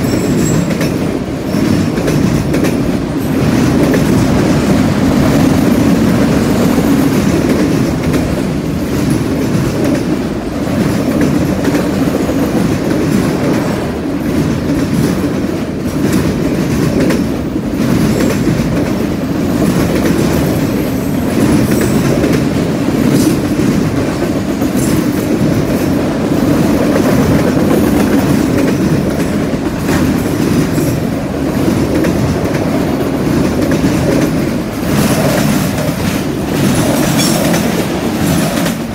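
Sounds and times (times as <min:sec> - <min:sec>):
train wheels rumbling on rail: 0:00.0 - 0:38.9
wheels clicking over rail joints: 0:00.0 - 0:38.9.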